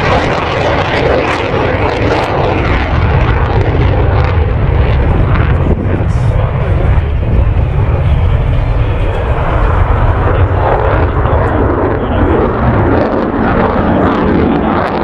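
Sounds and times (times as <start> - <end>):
aircraft engine rumble: 0.0 - 15.0.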